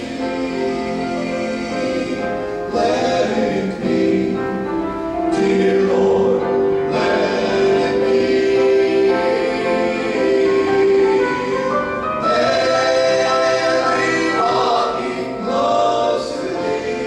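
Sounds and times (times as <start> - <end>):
male quartet singing a hymn: 0.0 - 17.0.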